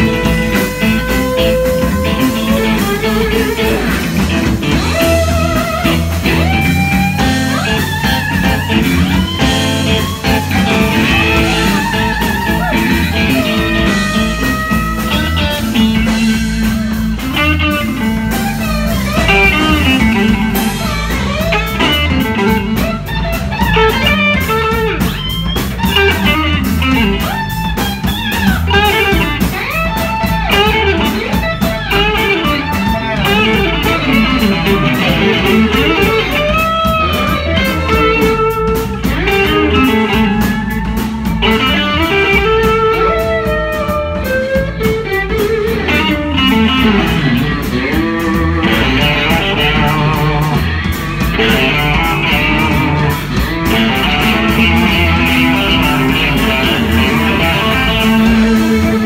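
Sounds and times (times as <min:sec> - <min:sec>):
bending electric guitar lead: 0:00.0 - 0:59.0
blues-rock band playing: 0:00.0 - 0:59.0.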